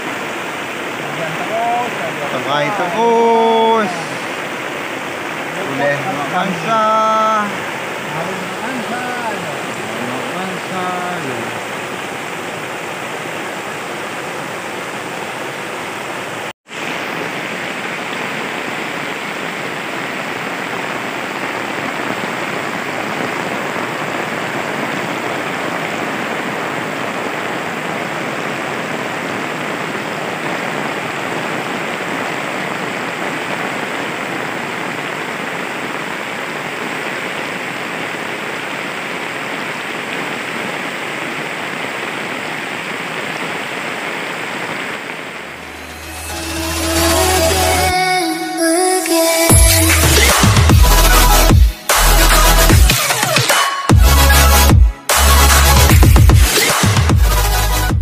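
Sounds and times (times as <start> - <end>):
heavy rain downpour: 0.0 - 58.0
rushing river: 0.0 - 58.0.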